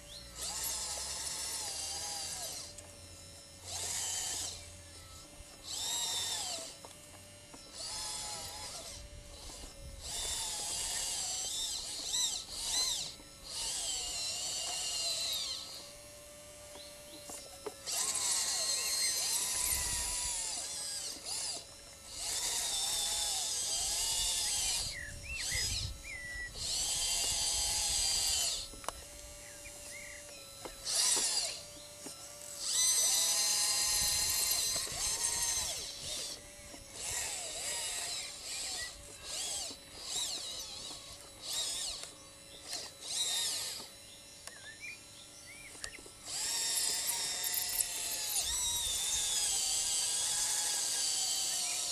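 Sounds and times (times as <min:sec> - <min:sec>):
model electric motors whining: 0:00.0 - 0:51.9.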